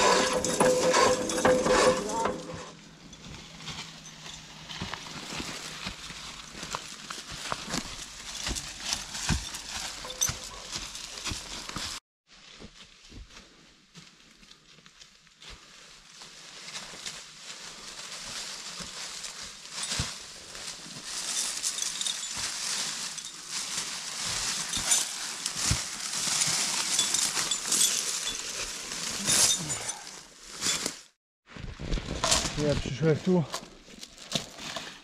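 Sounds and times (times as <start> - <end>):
footsteps crunching through dry leaves: 2.0 - 35.0.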